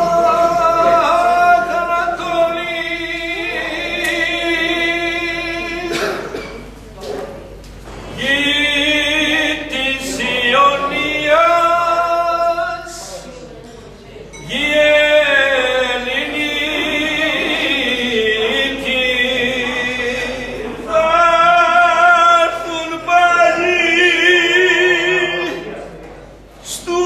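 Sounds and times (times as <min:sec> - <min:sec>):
men singing unaccompanied: 0:00.0 - 0:06.0, 0:08.2 - 0:13.1, 0:14.4 - 0:25.7.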